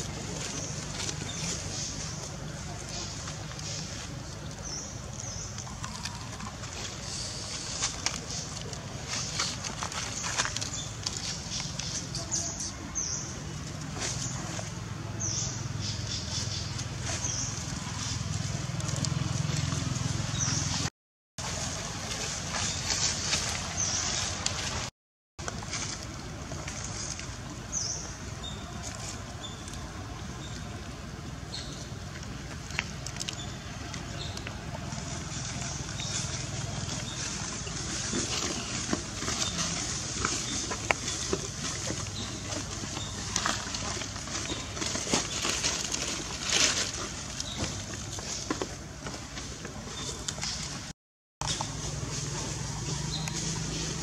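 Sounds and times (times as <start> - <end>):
noisy outdoor background: 0.0 - 54.0.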